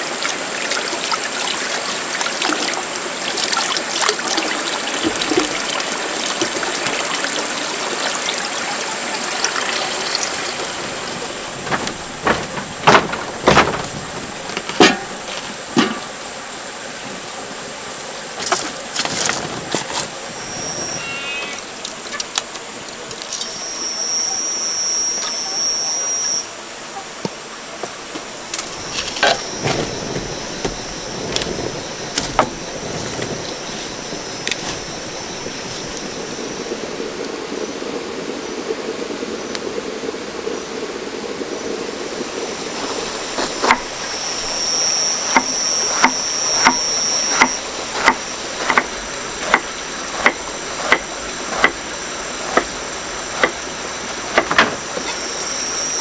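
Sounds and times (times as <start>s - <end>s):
high steady whine: 0.0s - 56.0s.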